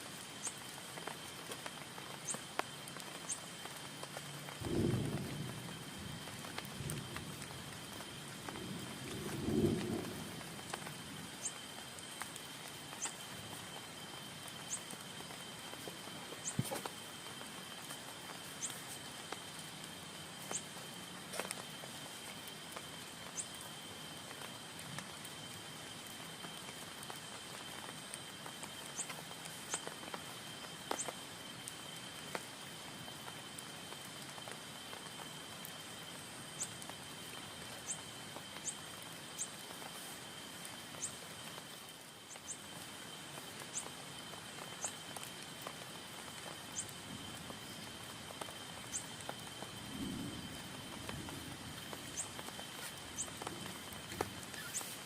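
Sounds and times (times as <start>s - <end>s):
rain hissing on a tent: 0.0s - 55.0s.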